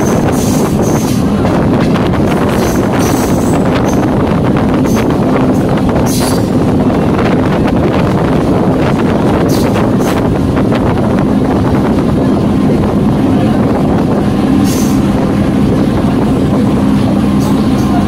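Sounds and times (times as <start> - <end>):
train running rumble: 0.0 - 18.0
wind buffeting microphone: 0.0 - 18.0.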